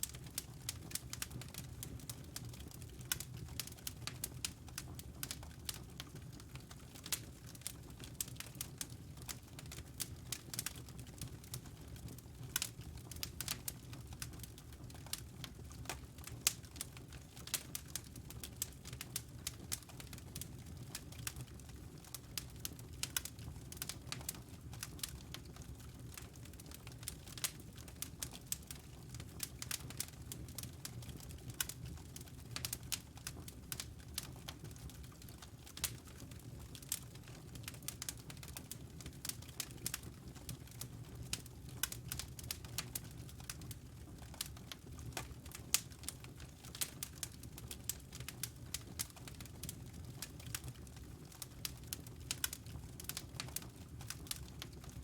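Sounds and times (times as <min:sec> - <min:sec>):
low rumble of burning fire: 0:00.0 - 0:55.0
wood fire popping and snapping: 0:00.0 - 0:55.0.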